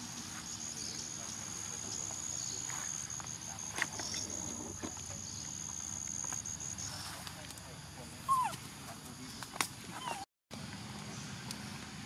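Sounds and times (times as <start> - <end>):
forest background: 0.0 - 12.0.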